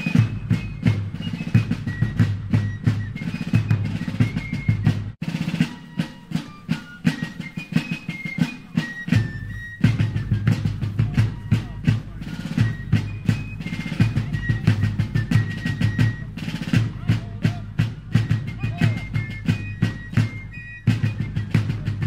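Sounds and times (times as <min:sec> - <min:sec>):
upbeat music with drum beat: 0:00.0 - 0:22.0.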